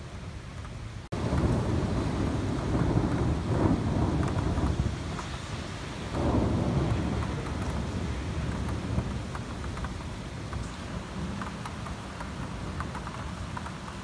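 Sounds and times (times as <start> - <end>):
steady rain: 0.0 - 14.0
raindrops tapping close by: 0.1 - 14.0
thunder rumbling: 1.1 - 14.0.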